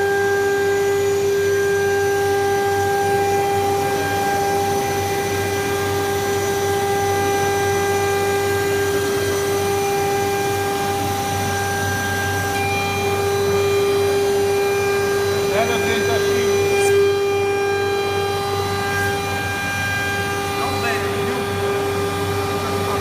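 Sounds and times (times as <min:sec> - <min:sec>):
machine noise: 0:00.0 - 0:23.0
router high whine: 0:00.0 - 0:23.0
low hum: 0:02.9 - 0:23.0.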